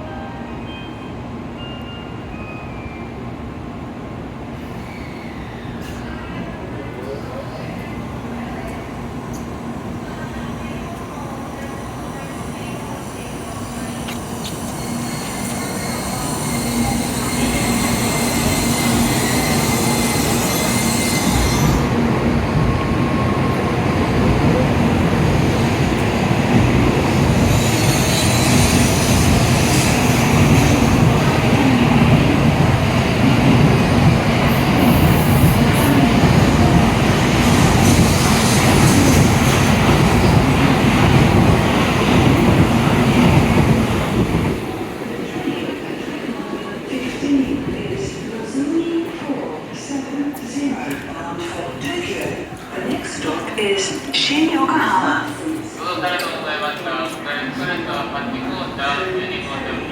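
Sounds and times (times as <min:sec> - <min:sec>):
high-speed train running past: 0:00.0 - 0:59.9
train wheel noise: 0:08.4 - 0:59.9.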